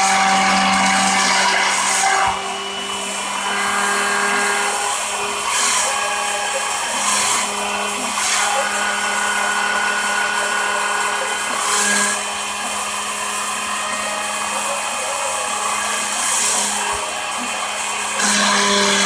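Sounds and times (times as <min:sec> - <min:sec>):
electric power tool motor humming: 0:00.0 - 0:19.0.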